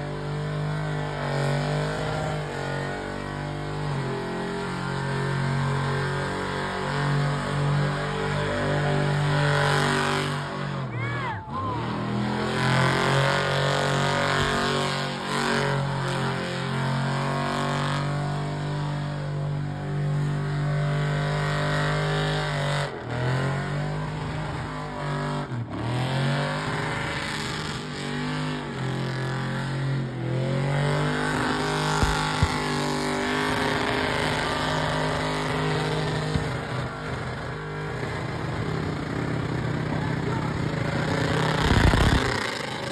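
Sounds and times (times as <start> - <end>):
car engine at high revs: 0.0 - 42.9.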